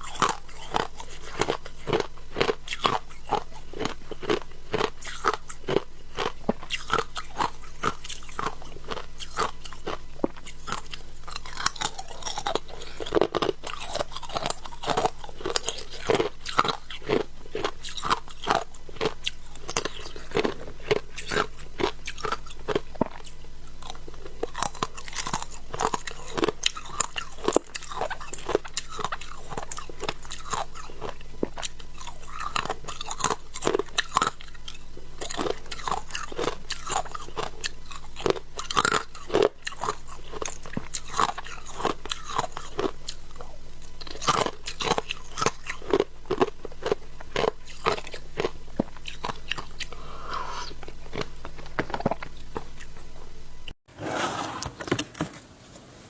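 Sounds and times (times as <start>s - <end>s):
person crunching ice: 0.0s - 34.5s, 35.2s - 42.9s, 44.0s - 53.0s
steady low hum: 0.0s - 53.8s.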